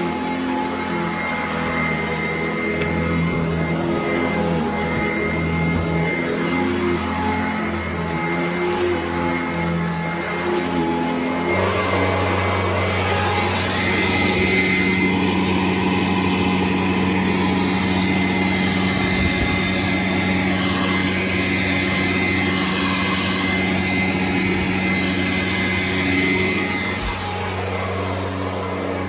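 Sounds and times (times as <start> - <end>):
vacuum cleaner running over carpet: 0.0 - 29.0.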